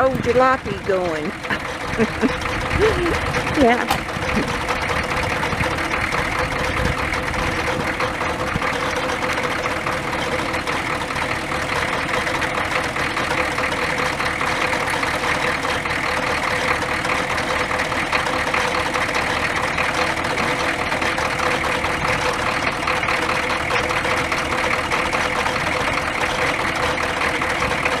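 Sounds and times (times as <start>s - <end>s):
pickup truck engine idling: 0.0s - 28.0s.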